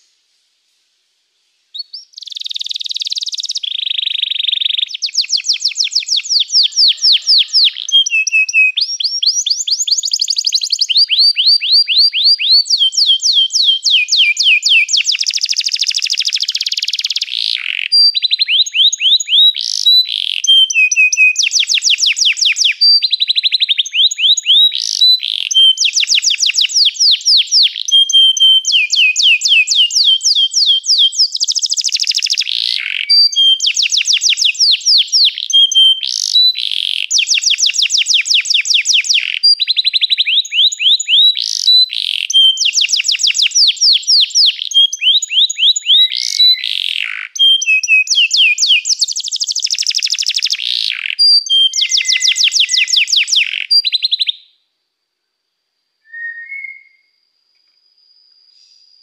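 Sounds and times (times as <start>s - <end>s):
canary trilling: 1.8s - 54.4s.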